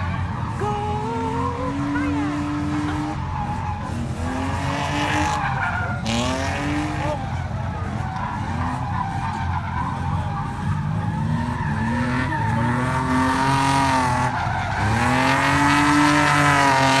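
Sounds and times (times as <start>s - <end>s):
car engine revving hard: 0.0s - 17.0s
tyres skidding: 0.0s - 17.0s.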